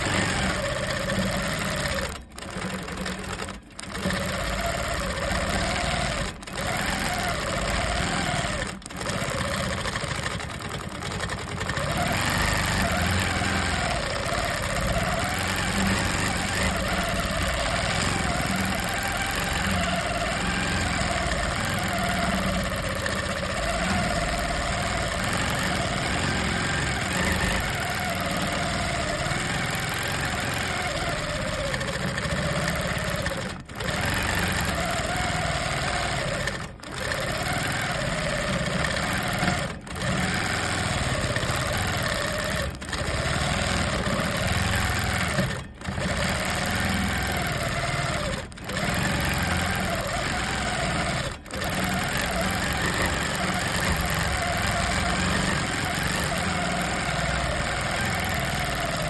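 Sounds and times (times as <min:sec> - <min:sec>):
quilting machine motor hum: 0:00.0 - 0:59.0.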